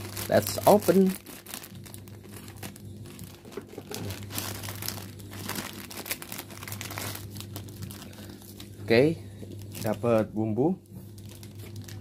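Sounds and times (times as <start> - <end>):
plastic packet crinkling: 0.0 - 8.9, 9.5 - 10.4, 11.0 - 12.0
steady low hum: 0.0 - 12.0.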